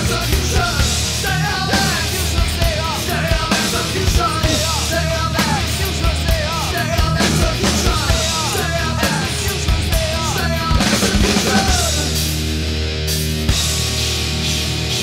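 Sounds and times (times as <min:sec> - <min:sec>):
bass guitar: 0:00.0 - 0:15.0
drum kit: 0:00.0 - 0:15.0
held guitar chords: 0:00.0 - 0:15.0
person singing rock song: 0:00.0 - 0:15.0.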